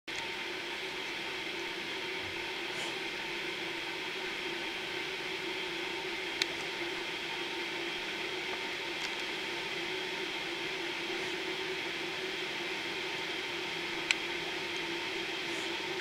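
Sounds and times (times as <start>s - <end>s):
faint hum: 0.1s - 16.0s.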